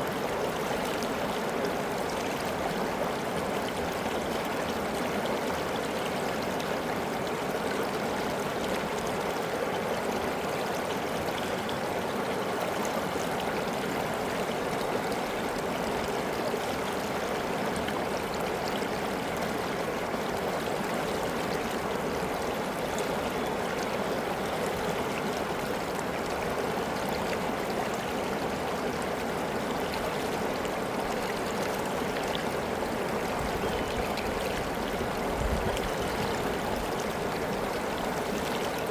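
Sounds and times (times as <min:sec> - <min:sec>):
river water rushing and babbling: 0:00.0 - 0:38.9.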